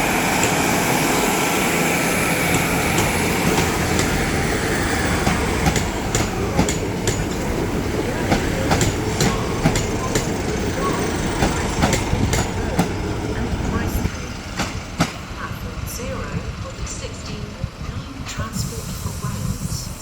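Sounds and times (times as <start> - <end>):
wheels clicking over rail joints: 0.0 - 18.6
diesel train passing: 0.0 - 20.0.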